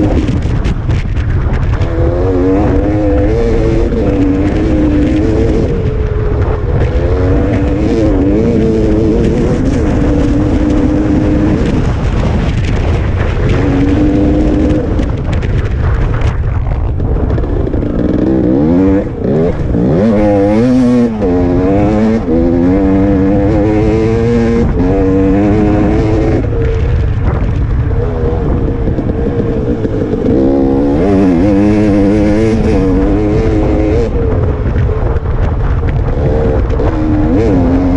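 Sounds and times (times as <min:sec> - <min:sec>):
dirt bike engine revving: 0:00.0 - 0:16.2, 0:17.1 - 0:37.9.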